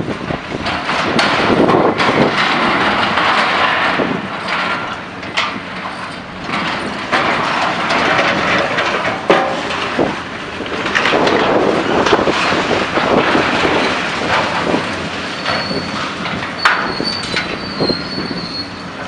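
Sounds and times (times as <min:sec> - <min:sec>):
debris crunching and scraping: 0:00.0 - 0:19.0
diesel engines running: 0:00.0 - 0:19.0.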